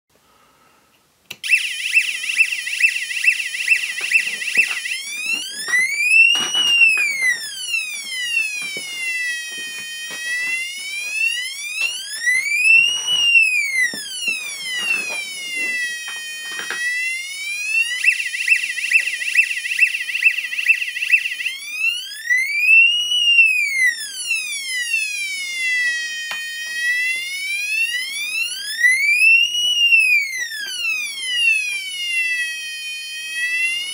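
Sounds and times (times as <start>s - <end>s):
electronic siren effect: 1.3s - 33.9s.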